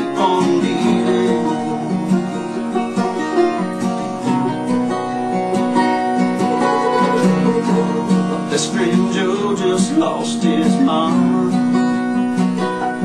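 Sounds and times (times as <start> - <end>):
country music on acoustic guitars: 0.0 - 13.0.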